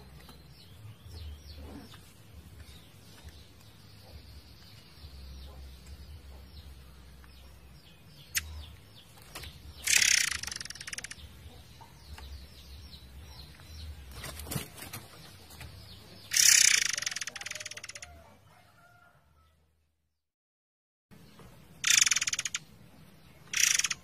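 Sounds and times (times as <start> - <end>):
rapid volley of bird notes: 0.0 - 18.8, 21.1 - 24.0
songbird chirping: 0.0 - 20.0, 21.1 - 24.0.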